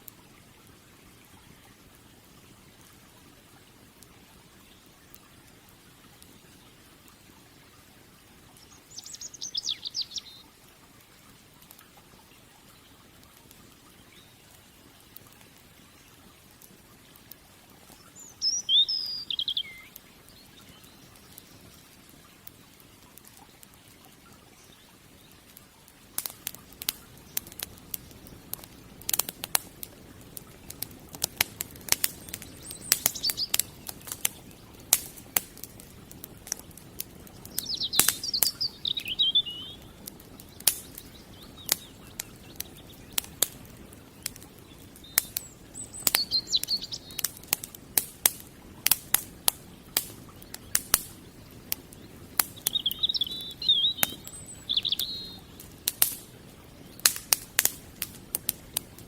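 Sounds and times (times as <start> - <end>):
wood fire crackling: 0.0 - 59.0
small birds chirping: 4.0 - 10.7, 11.3 - 59.0.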